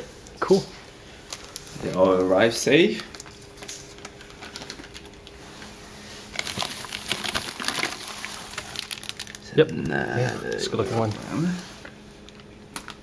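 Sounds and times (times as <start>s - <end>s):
faint steady hum: 0.0s - 13.0s
plastic bags crinkling: 1.2s - 13.0s.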